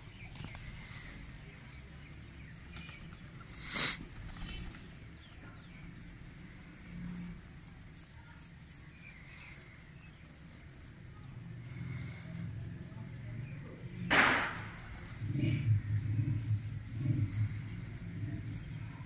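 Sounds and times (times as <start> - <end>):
beaks pecking on concrete: 0.0 - 19.0.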